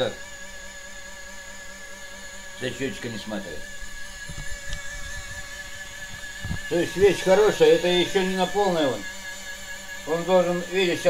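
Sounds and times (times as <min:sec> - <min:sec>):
small motor whining: 0:00.0 - 0:11.0.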